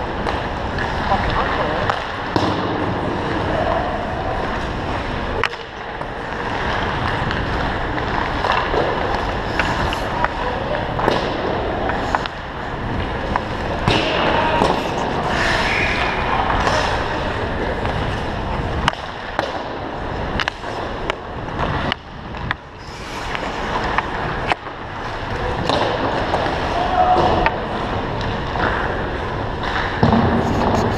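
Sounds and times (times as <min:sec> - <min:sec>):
hockey sticks hitting pucks: 0:00.2 - 0:30.9
skates scraping on ice: 0:00.2 - 0:30.9.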